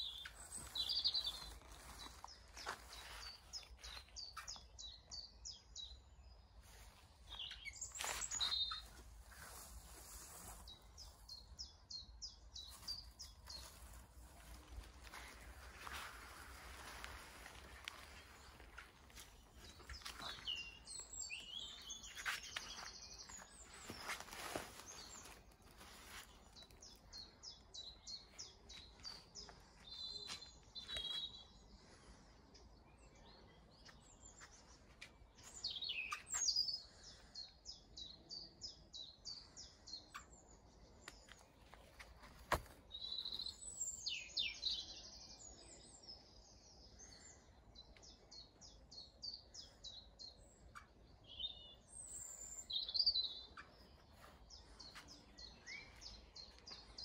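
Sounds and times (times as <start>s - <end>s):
small birds singing: 0.0s - 57.0s.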